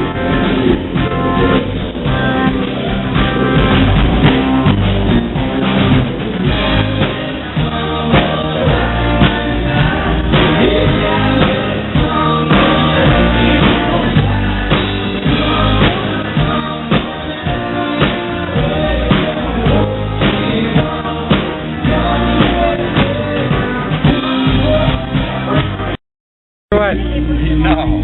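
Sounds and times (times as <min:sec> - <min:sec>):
country-rock band playing: 0:00.0 - 0:26.0
drum kit beat: 0:00.0 - 0:26.0.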